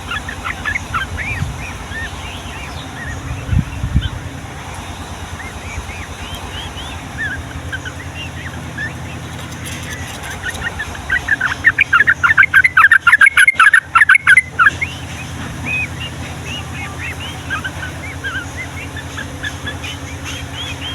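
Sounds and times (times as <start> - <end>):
bulbul singing: 0.0 - 20.9.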